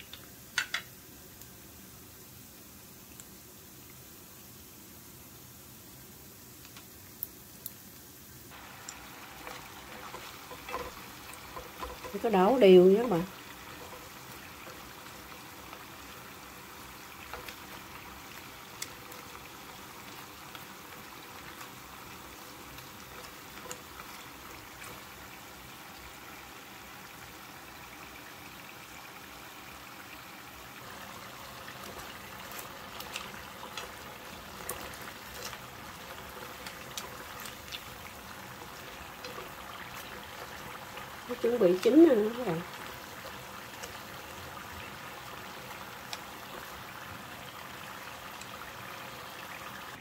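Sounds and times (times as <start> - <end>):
spring rolls deep-frying in oil: 0.0 - 50.0.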